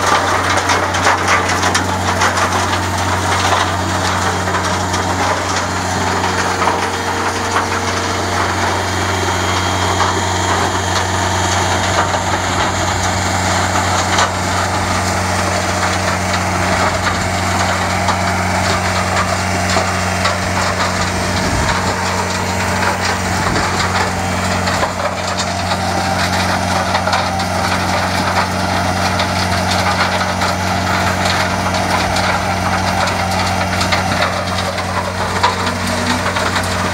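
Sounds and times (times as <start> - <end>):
engine hum: 0.0 - 36.9
soil and stones rattling in drum: 0.0 - 36.9.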